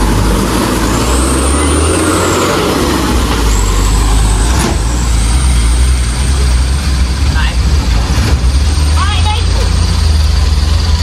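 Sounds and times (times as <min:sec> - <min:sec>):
truck engines rumbling: 0:00.0 - 0:11.0.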